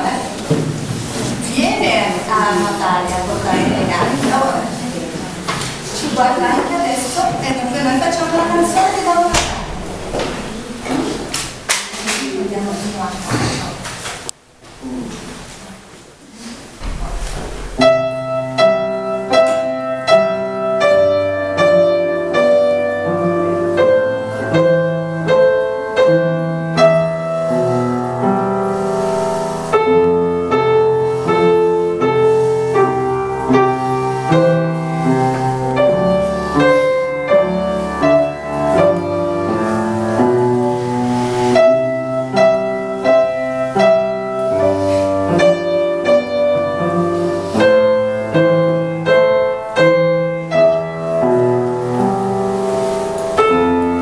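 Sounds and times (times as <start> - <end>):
upright piano playing: 0.0 - 12.7, 16.8 - 54.0.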